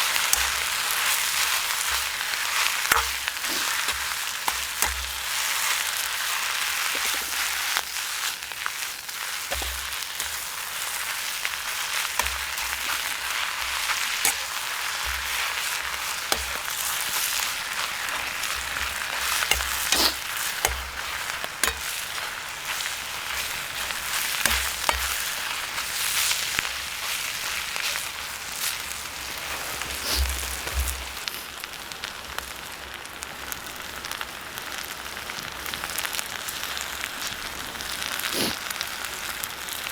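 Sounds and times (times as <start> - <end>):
food sizzling in a wok: 0.0 - 39.9.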